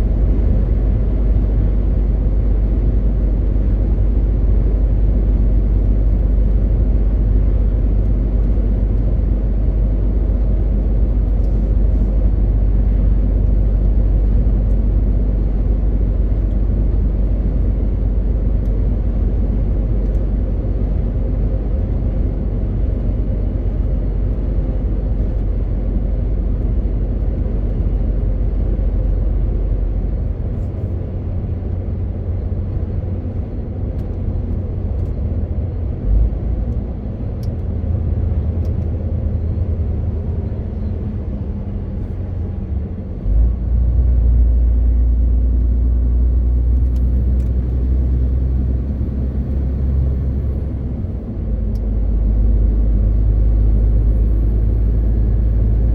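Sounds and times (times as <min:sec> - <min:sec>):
road noise: 0:00.0 - 0:55.9
truck diesel engine running: 0:00.0 - 0:55.9.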